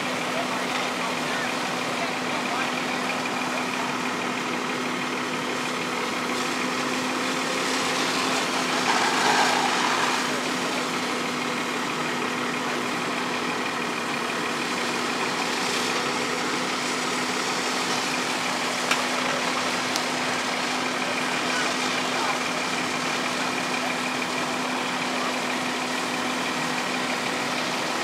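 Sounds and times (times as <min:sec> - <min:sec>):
fire engine pump running: 0:00.0 - 0:28.0.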